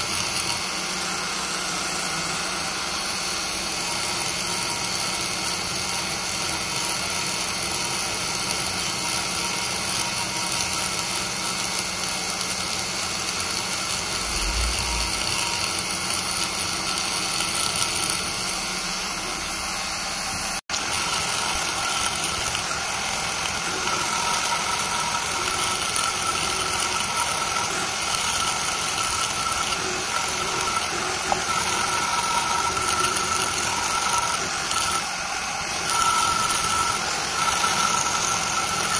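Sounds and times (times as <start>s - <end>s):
die grinder grinding metal: 0.0s - 38.9s.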